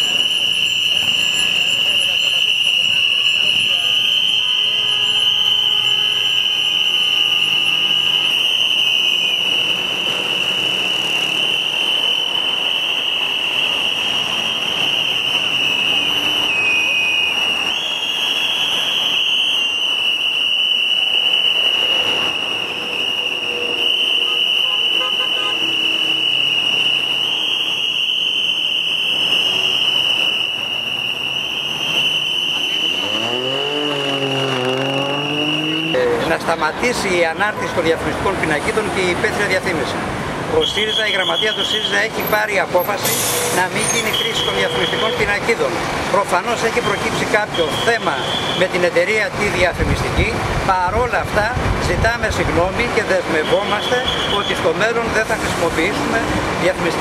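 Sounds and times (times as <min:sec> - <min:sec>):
street traffic rush: 0:00.0 - 0:57.0.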